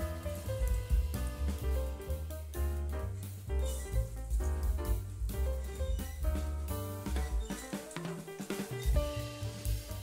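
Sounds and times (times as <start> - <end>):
light percussion: 0.0 - 10.0.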